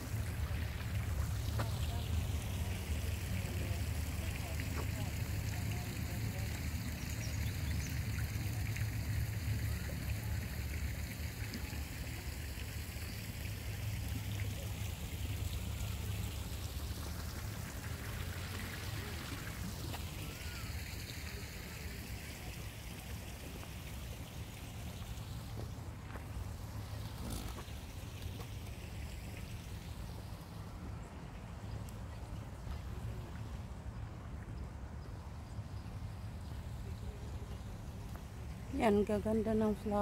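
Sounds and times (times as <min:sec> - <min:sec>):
fountain splashing and trickling: 0:00.0 - 0:40.0.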